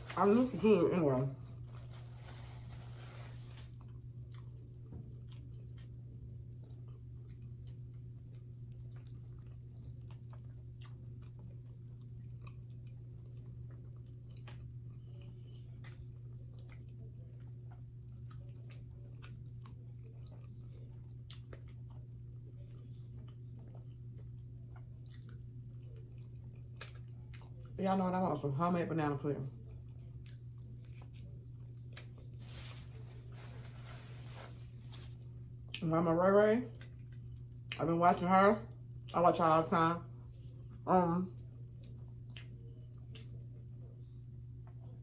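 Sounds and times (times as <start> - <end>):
chewing and eating: 0.0 - 45.0
steady low hum: 0.0 - 45.0.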